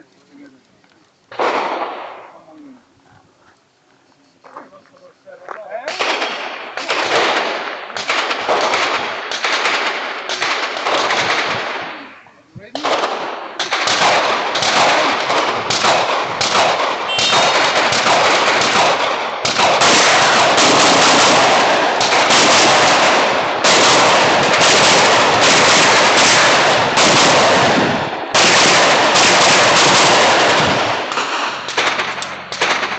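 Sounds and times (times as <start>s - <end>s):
rapid pistol shots: 1.3s - 2.4s, 5.9s - 12.2s, 12.8s - 32.9s
gunshot echo from hillside: 1.4s - 2.4s, 5.8s - 12.1s, 12.8s - 32.9s.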